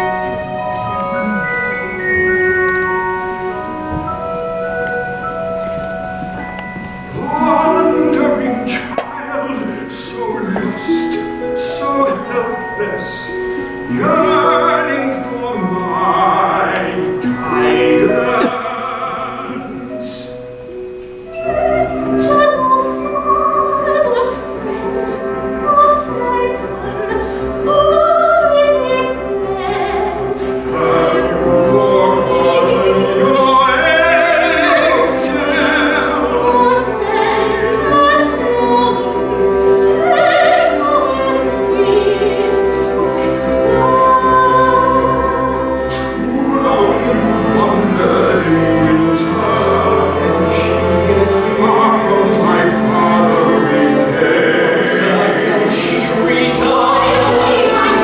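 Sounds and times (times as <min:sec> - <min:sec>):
operatic singing: 0:00.0 - 0:58.0
pit orchestra playing: 0:00.0 - 0:58.0.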